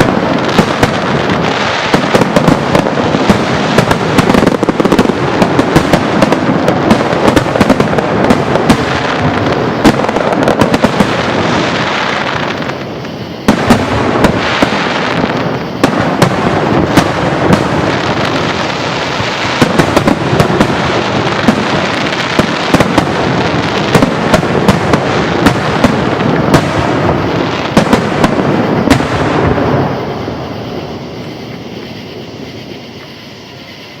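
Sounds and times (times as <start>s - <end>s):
fireworks bangs and crackle: 0.0s - 34.0s.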